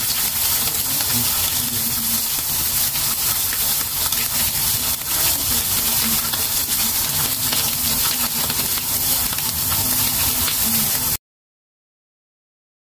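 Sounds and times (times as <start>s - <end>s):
fish sizzling in oil: 0.0s - 11.2s.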